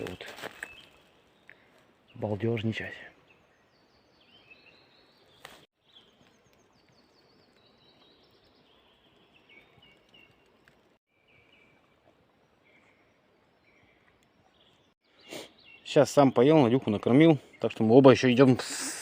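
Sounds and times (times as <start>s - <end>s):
faint distant birdsong: 0.0s - 19.0s.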